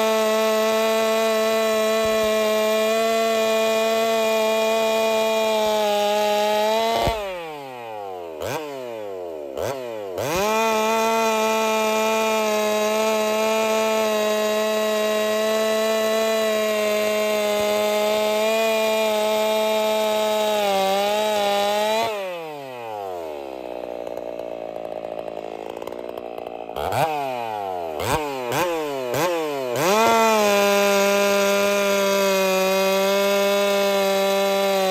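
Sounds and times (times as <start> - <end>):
chainsaw cutting log: 0.0 - 34.9.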